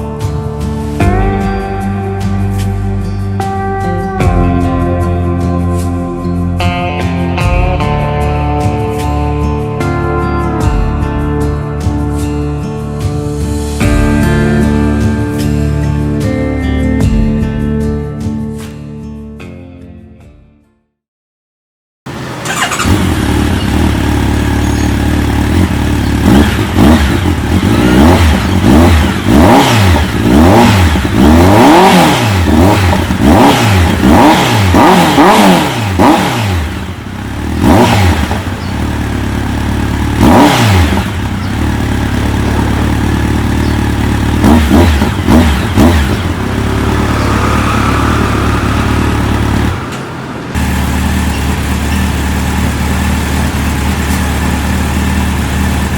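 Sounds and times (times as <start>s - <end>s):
motorcycle engine idling and revving: 0.0s - 17.7s, 22.1s - 55.9s.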